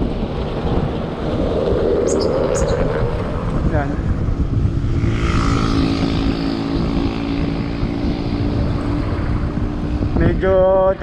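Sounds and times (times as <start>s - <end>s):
passing vehicle engine hum: 0.0s - 11.0s
wind buffeting microphone: 0.0s - 11.0s.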